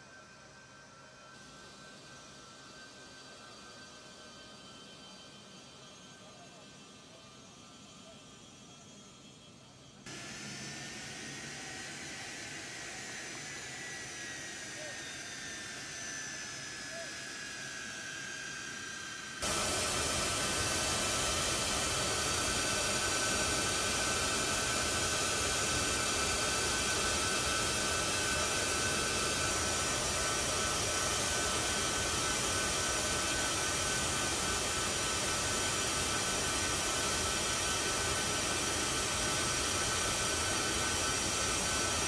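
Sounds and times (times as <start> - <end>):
jet engines hissing and whining: 0.0 - 42.0.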